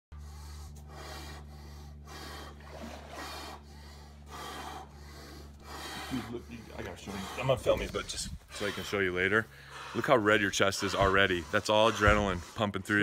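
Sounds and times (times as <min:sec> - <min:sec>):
low hum: 0:00.1 - 0:13.0
rapid deep breathing: 0:00.1 - 0:13.0.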